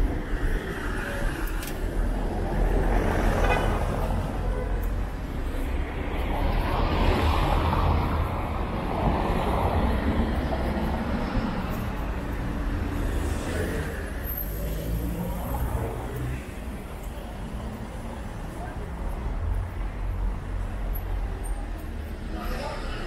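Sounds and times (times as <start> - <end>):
cars driving past on wet street: 0.0 - 20.9.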